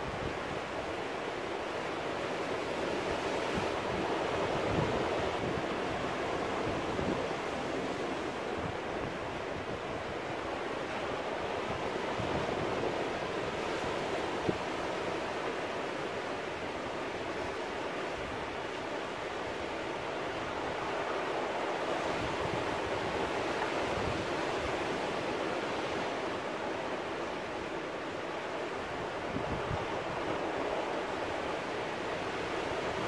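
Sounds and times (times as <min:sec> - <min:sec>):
ocean surf over rocks: 0:00.0 - 0:33.0.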